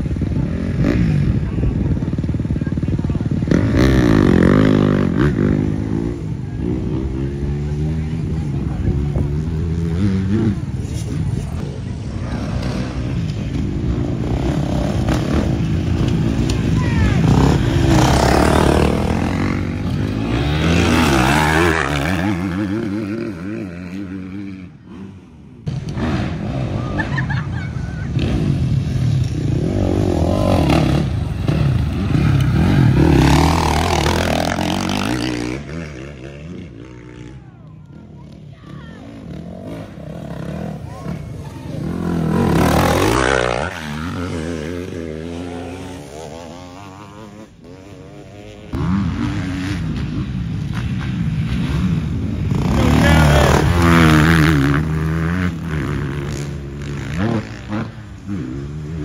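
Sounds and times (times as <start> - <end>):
dirt bike engine revving: 0.0 - 27.5, 28.1 - 37.4, 38.7 - 59.0.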